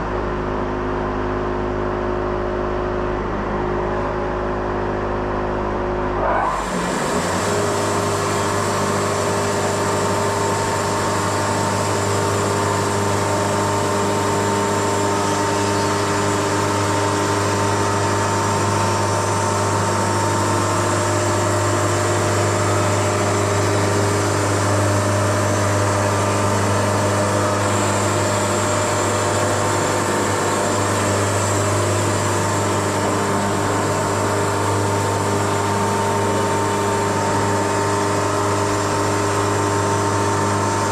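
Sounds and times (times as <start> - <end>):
sawmill engine humming: 6.1 - 40.9.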